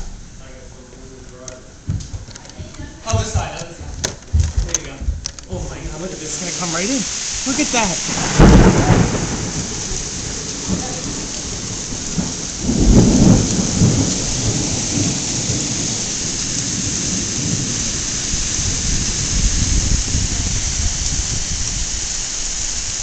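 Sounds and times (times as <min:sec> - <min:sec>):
heavy rain downpour hissing: 0:00.0 - 0:02.0, 0:02.7 - 0:23.0
thunder rumble: 0:01.8 - 0:23.0.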